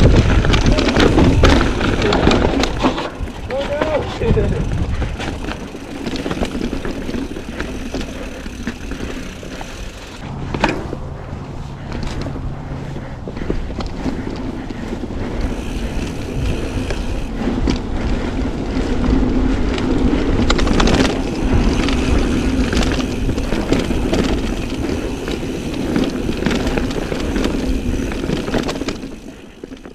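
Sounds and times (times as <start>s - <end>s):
wind buffeting microphone: 0.0s - 29.8s
bike clicks and rattles: 0.0s - 29.9s
tyres on dirt and rock: 0.0s - 29.9s.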